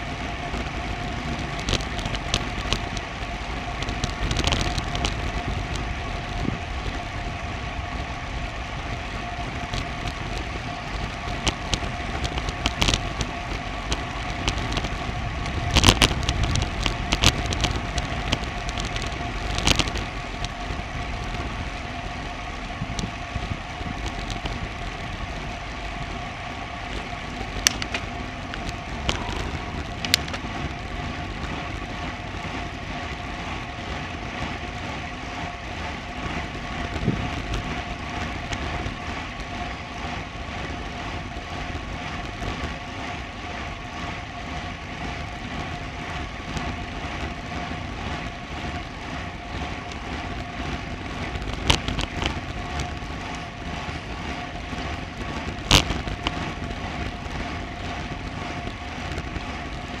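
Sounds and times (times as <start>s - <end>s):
bicycle tyres on road: 0.0s - 60.0s
faint steady whine: 0.0s - 60.0s
wind rush: 0.0s - 60.0s.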